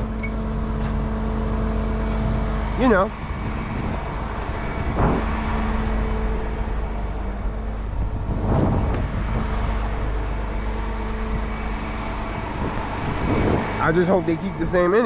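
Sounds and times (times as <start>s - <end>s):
road rumble: 0.0s - 15.0s
truck engine drone: 0.0s - 15.0s.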